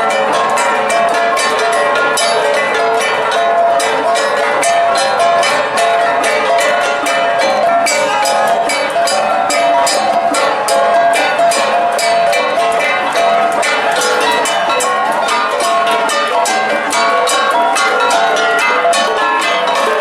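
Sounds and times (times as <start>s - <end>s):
flat gongs ensemble playing: 0.0s - 20.0s.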